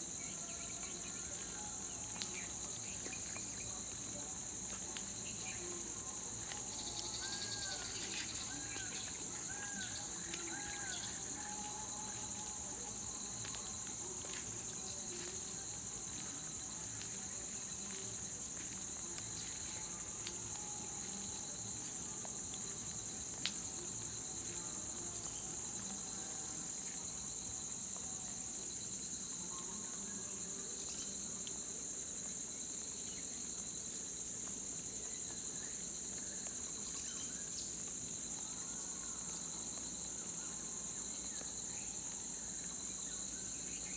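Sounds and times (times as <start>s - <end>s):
insect chorus droning: 0.0s - 43.9s.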